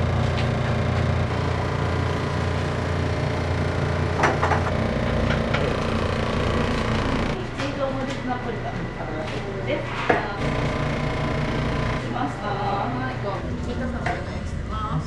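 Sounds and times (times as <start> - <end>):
kitchen equipment humming: 0.0 - 15.0.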